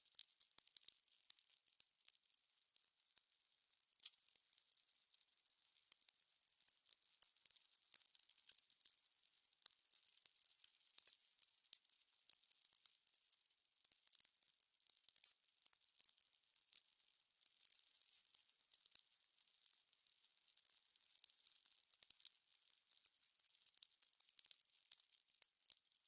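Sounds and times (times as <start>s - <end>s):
fire crackling and popping: 0.1s - 26.0s.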